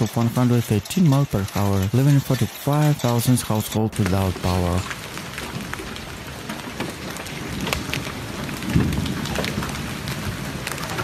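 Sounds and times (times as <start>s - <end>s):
hailstones clicking: 0.0s - 11.0s
heavy rain hiss: 1.4s - 11.0s.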